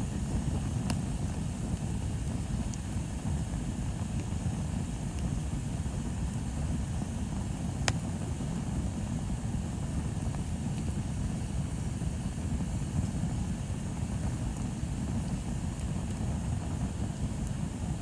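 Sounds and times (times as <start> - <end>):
bonfire rumbling: 0.0 - 18.0
bonfire crackle: 0.1 - 18.0.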